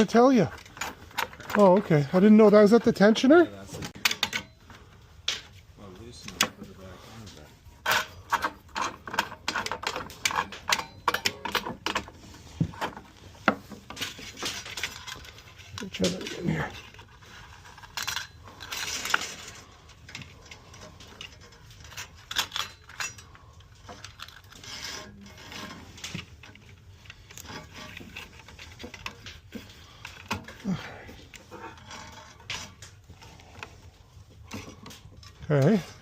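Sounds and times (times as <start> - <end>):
metal and plastic parts clicking: 0.0 - 3.1, 3.9 - 5.5, 7.8 - 33.8.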